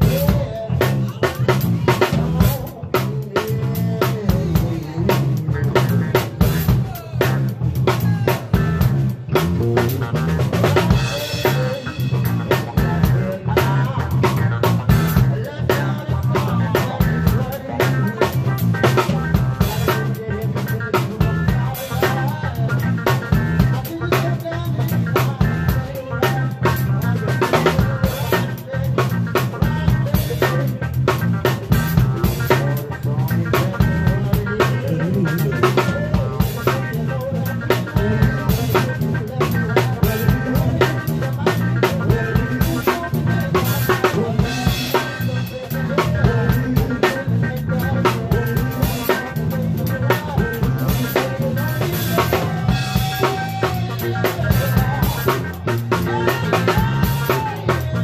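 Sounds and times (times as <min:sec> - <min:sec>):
close drum kit: 0:00.0 - 0:58.0
live funk band playing: 0:00.0 - 0:58.0.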